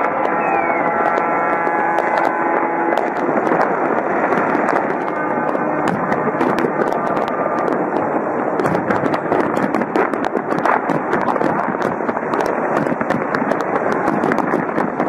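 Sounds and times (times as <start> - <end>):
continuous dense din: 0.0 - 15.0
fireworks popping and crackling: 0.0 - 15.0.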